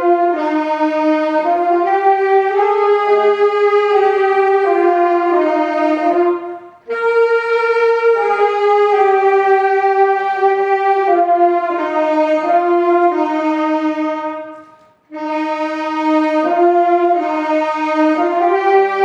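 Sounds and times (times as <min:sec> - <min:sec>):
held brass-like chords: 0:00.0 - 0:19.0.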